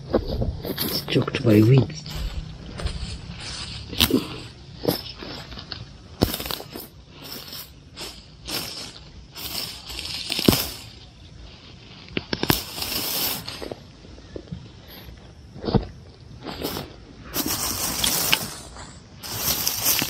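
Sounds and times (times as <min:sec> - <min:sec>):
crunching dry weeds underfoot: 0:00.0 - 0:20.0.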